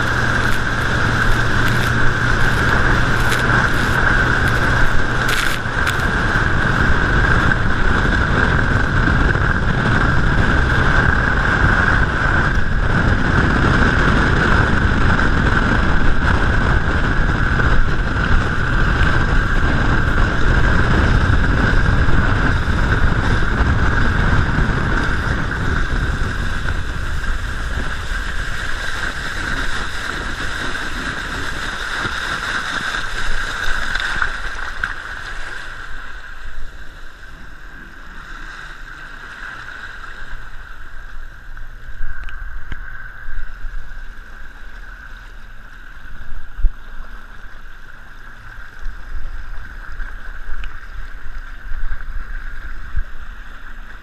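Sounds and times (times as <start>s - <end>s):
steady high hum: 0.0s - 54.0s
water rushing along boat hull: 0.0s - 54.0s
water splashes: 0.0s - 54.0s
wind: 0.0s - 54.0s.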